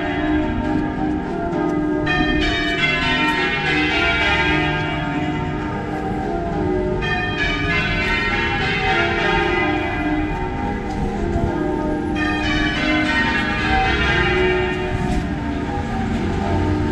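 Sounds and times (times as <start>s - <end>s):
church bells pealing: 0.0s - 16.9s.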